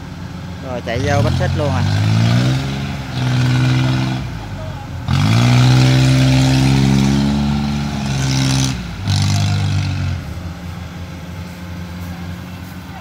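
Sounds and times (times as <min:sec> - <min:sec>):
combine harvester diesel engine revving: 0:00.0 - 0:13.0.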